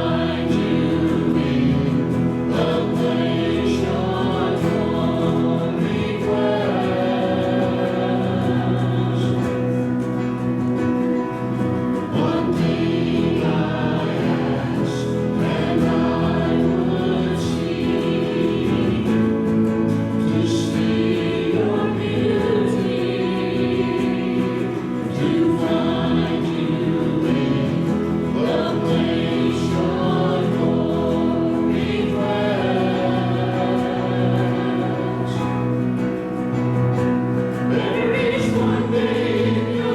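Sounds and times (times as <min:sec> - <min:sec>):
choir singing worship song: 0:00.0 - 0:39.9.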